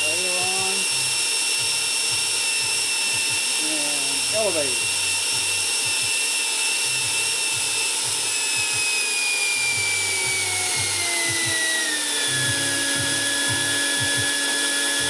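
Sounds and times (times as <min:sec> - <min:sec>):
model jet ducted fan whining: 0:00.0 - 0:15.0.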